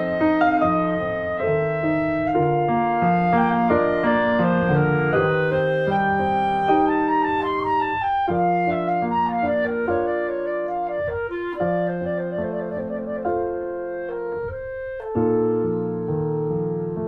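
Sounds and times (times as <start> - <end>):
piano accompaniment: 0.0 - 17.0
slow woodwind melody: 0.0 - 17.0.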